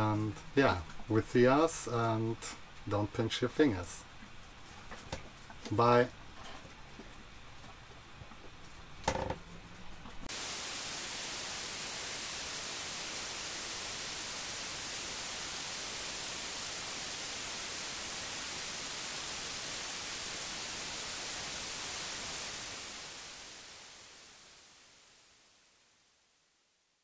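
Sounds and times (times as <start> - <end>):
television static hiss: 0.0 - 27.0.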